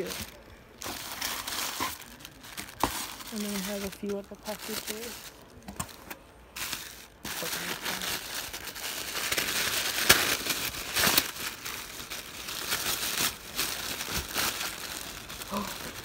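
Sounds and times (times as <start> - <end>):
tissue paper crinkling: 0.0 - 16.0.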